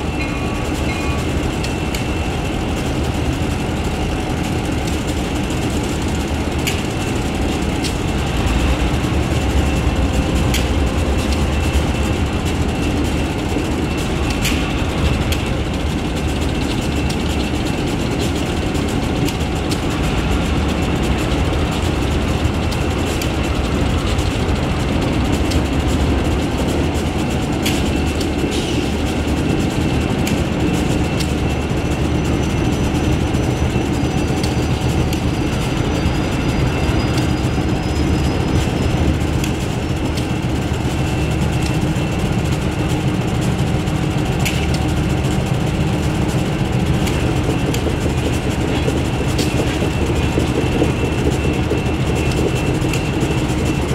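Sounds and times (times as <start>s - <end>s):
diesel locomotive engine rumble: 0.0s - 53.9s.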